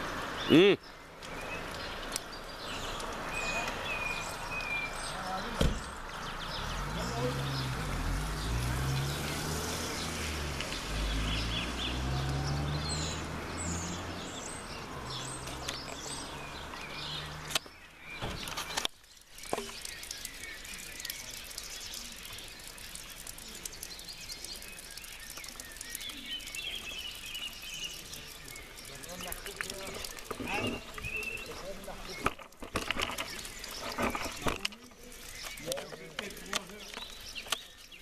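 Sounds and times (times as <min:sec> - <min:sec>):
outdoor background noise: 0:00.0 - 0:38.0
small birds chirping: 0:00.0 - 0:38.0.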